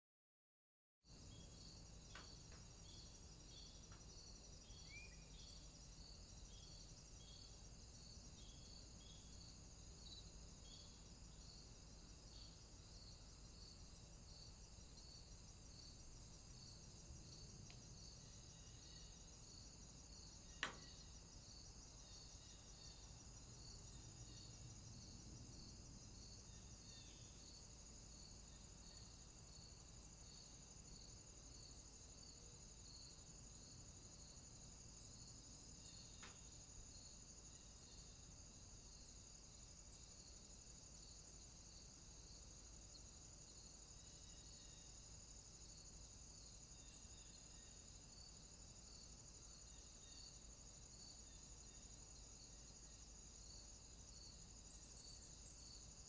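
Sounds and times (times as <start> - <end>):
insect chirring: 1.1 - 56.0.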